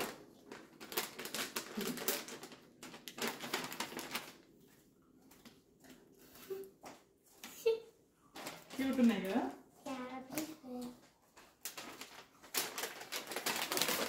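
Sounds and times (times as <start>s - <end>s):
wrapping paper crinkling: 0.0s - 6.6s, 8.3s - 9.4s, 10.2s - 14.0s.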